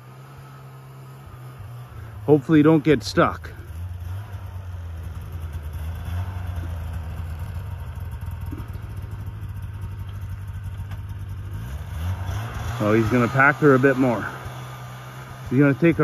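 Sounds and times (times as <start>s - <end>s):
snowmobile engine idling: 0.0s - 16.0s.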